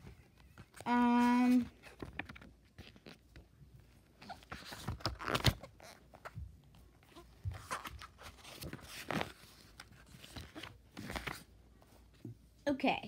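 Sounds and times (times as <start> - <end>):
book pages flipping: 0.0 - 12.3.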